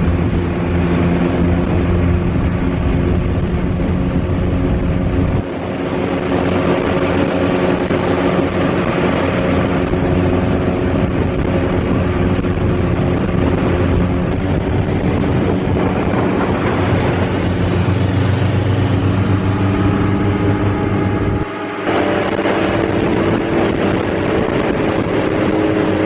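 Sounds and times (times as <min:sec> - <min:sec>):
motorcycle engine running: 0:00.0 - 0:26.0
wind on microphone: 0:00.0 - 0:26.0.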